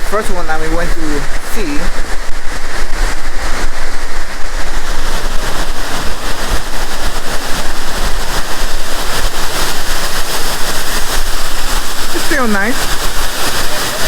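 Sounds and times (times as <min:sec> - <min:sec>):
low rumble: 0:00.0 - 0:14.0
waterfall rushing: 0:00.0 - 0:14.0.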